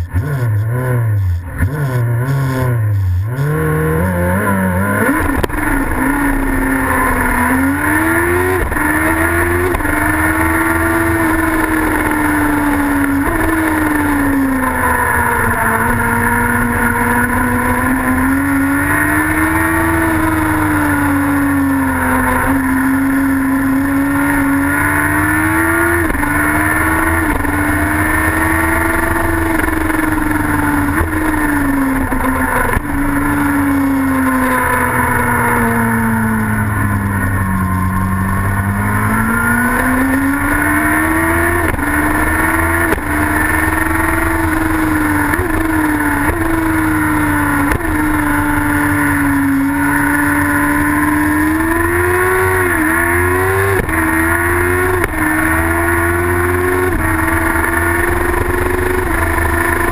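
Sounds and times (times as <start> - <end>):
racing sidecar engine: 0.0 - 59.9.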